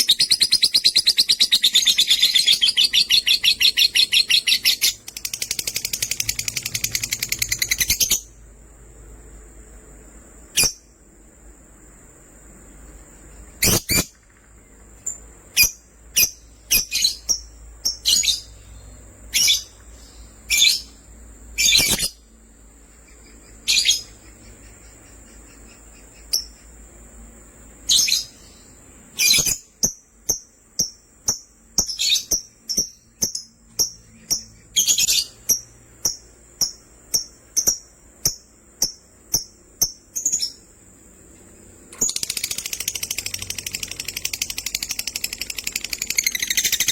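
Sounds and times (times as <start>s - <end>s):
lovebirds chirping: 0.0s - 8.4s, 12.6s - 46.9s.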